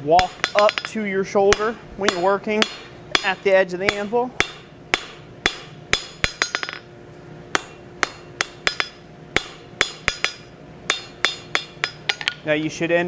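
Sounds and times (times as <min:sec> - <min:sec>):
hammer ringing on anvil: 0:00.2 - 0:06.9, 0:07.6 - 0:12.4.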